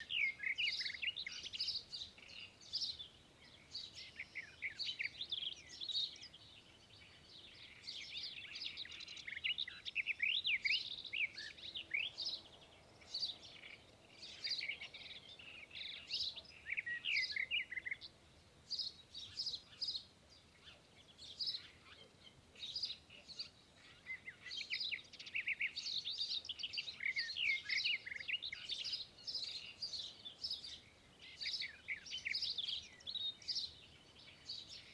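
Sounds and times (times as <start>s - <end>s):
songbirds chirping on television: 0.0s - 34.9s.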